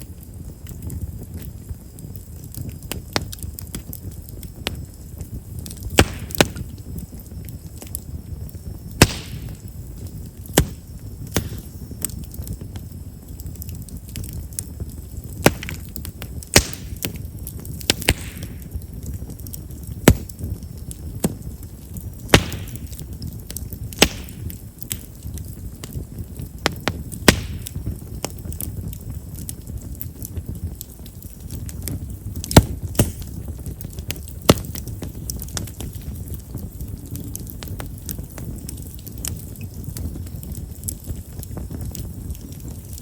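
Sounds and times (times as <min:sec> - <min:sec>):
firewood crackling and popping: 0:00.0 - 0:43.0
low rumble of flames: 0:00.0 - 0:43.0.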